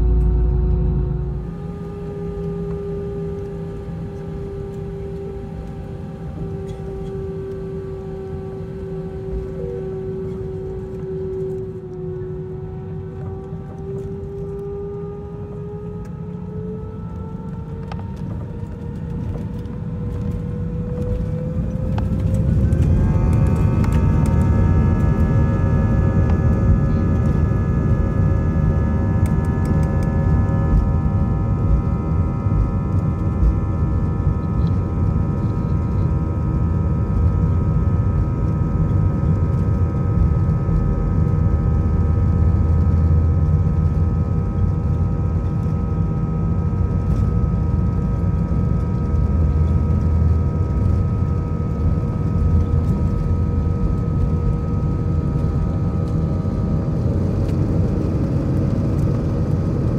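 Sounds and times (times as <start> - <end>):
jet engines whining and rumbling: 0.0 - 59.9.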